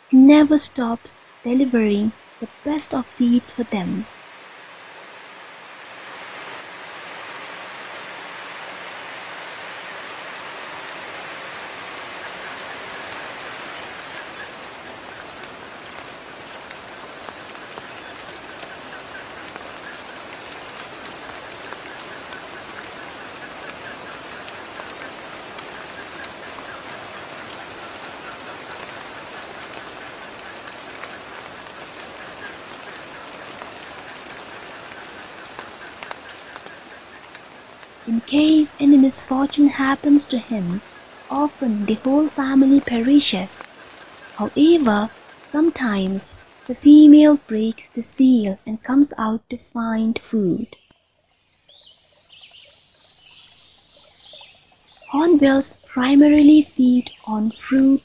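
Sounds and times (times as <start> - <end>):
steady rain falling: 0.0 - 58.0
raindrops ticking: 10.8 - 58.0.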